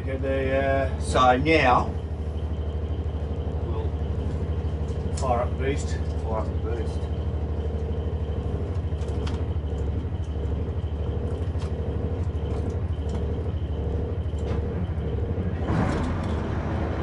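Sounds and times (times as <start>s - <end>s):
diesel engine rumble: 0.0s - 17.0s
generator drone: 0.0s - 17.0s.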